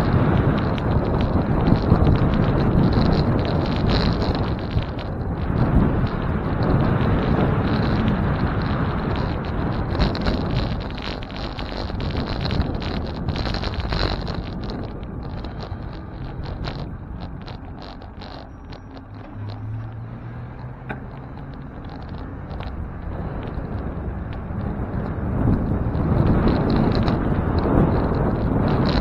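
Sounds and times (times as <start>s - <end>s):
road and traffic noise: 0.0s - 29.0s
wind buffeting microphone: 0.0s - 29.0s.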